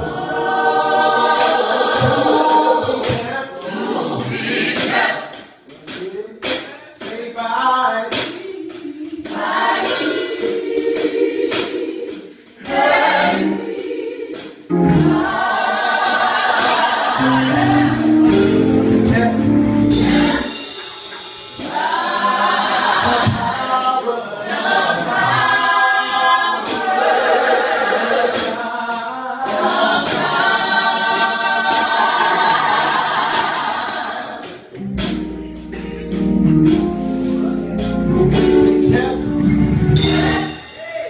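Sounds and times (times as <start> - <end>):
gospel choir singing: 0.0 - 41.0
sharp percussive beat: 0.0 - 41.0.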